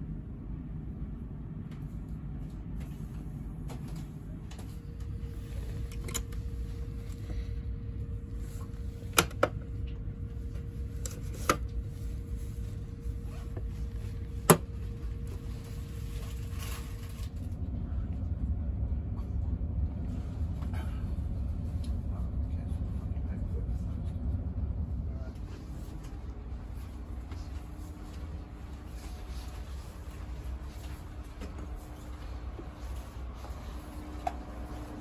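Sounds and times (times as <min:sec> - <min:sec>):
train low hum: 0:00.0 - 0:35.0.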